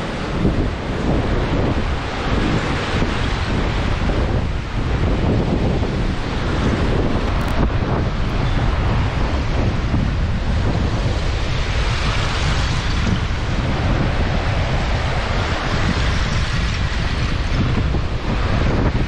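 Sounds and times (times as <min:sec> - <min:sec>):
lake waves washing in: 0:00.0 - 0:19.0
wind buffeting microphone: 0:00.0 - 0:19.0.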